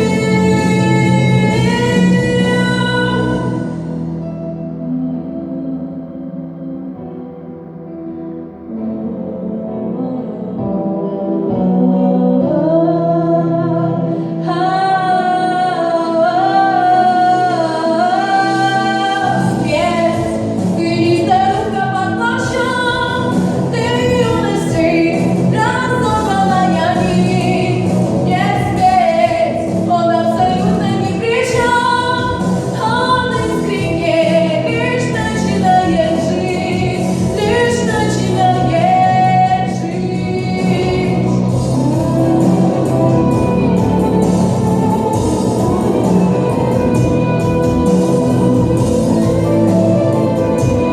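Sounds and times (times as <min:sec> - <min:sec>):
low bass line: 0:00.0 - 0:14.4, 0:17.8 - 0:50.9
slow sung melody: 0:00.0 - 0:50.9
sustained chords: 0:00.0 - 0:50.9.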